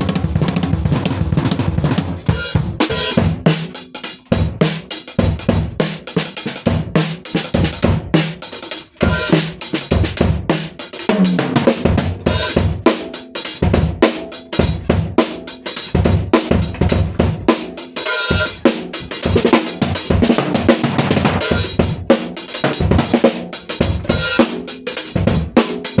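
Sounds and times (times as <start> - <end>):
drum kit playing fast: 0.0 - 26.0.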